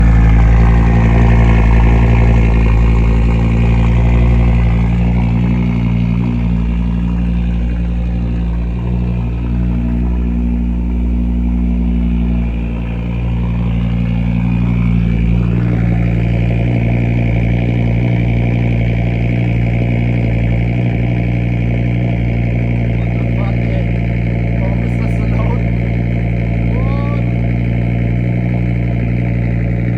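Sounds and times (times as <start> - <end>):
car engine at fast idle: 0.0 - 29.9.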